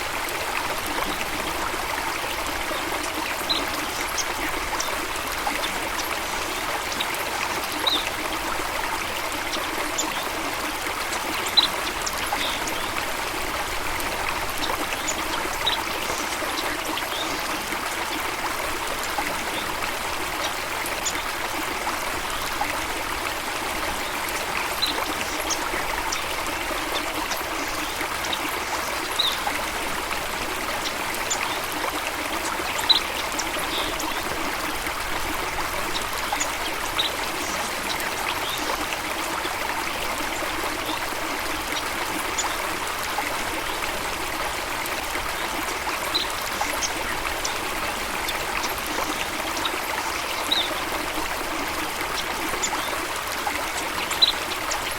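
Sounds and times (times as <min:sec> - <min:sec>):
stream water running: 0:00.0 - 0:54.9.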